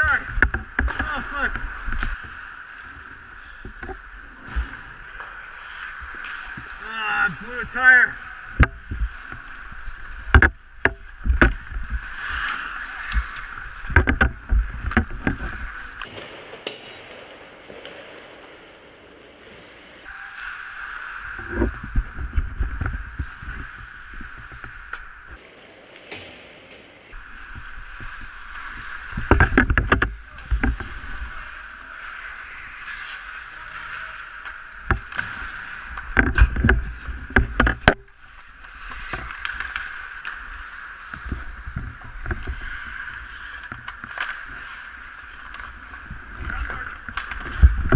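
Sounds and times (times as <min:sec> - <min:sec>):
hockey sticks and puck clacking: 0:00.0 - 0:47.9
skate blades scraping on ice: 0:00.6 - 0:08.5, 0:11.5 - 0:37.3, 0:38.2 - 0:47.9.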